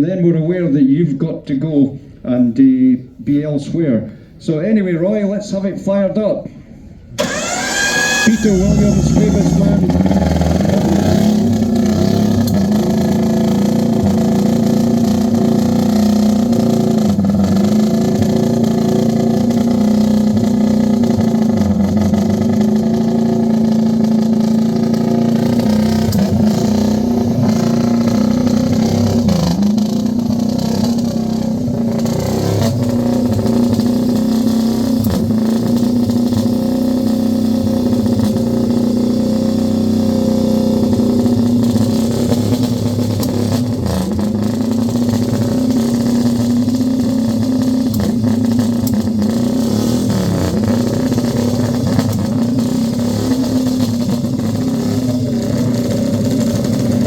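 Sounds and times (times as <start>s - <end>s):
motorcycle engine revving: 7.2s - 57.0s.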